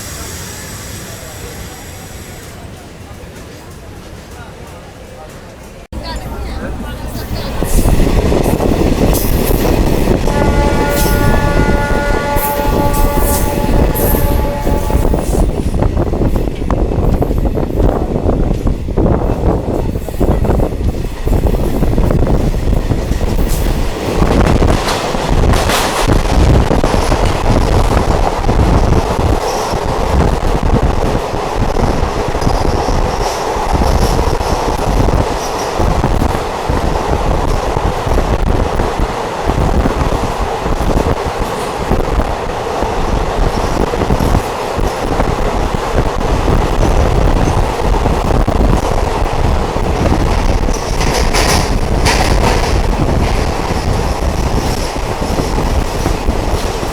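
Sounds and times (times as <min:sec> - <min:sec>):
train wheels rumbling on track: 0:00.0 - 0:56.9.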